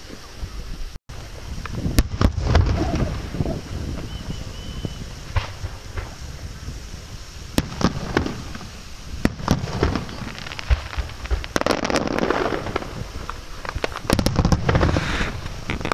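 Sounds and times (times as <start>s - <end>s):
fireworks banging and popping: 0.0s - 15.9s
fireworks crackling: 0.0s - 15.9s.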